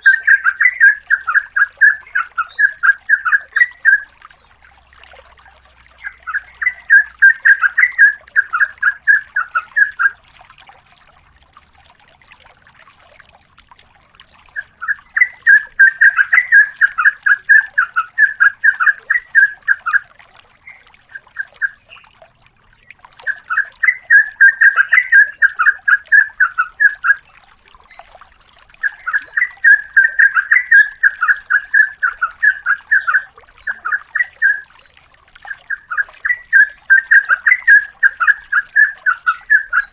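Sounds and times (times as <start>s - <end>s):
bird singing rattling phrases: 0.0s - 4.6s, 5.4s - 10.2s, 14.5s - 20.0s, 20.6s - 39.9s.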